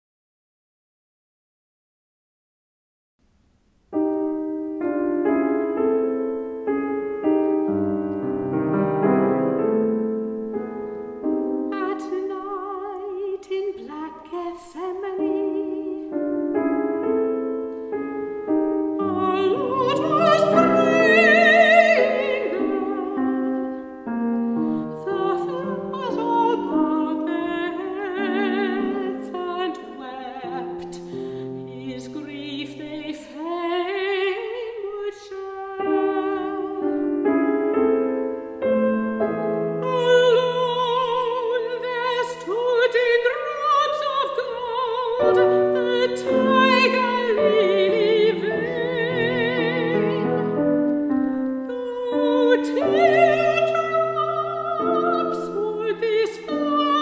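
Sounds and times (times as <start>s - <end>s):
grand piano: 3.4s - 57.0s
soprano singing: 4.0s - 57.0s.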